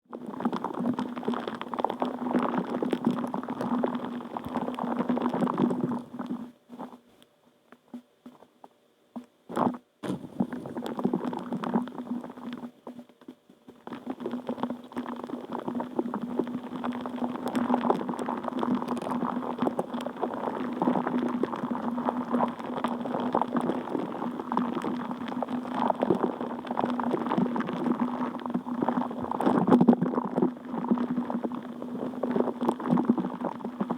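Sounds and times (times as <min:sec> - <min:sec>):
water bubbling and gurgling: 0:00.1 - 0:06.5, 0:10.1 - 0:12.7, 0:13.8 - 0:33.9.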